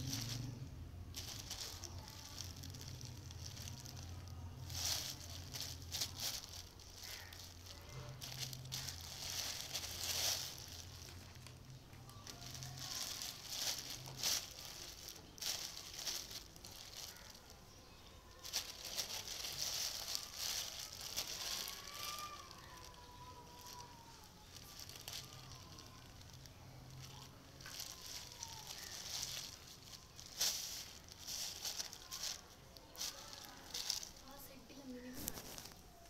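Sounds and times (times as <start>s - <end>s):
plastic bag crinkling: 0.0s - 36.0s.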